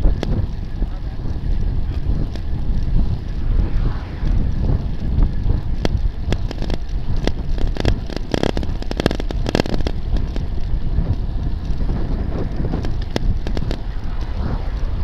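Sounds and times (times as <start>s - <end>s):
bike rolling on road: 0.0s - 15.0s
wind buffeting microphone: 0.0s - 15.0s.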